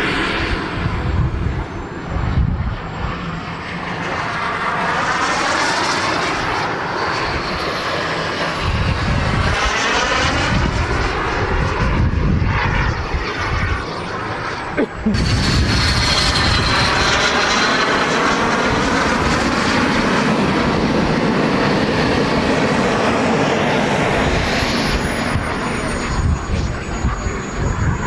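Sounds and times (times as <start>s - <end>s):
model jet turbine whine: 0.0s - 28.0s.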